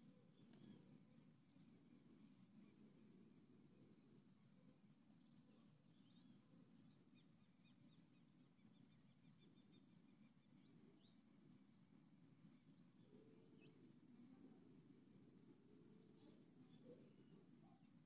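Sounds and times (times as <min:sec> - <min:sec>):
small bird calls: 0:00.0 - 0:03.2, 0:05.2 - 0:18.0.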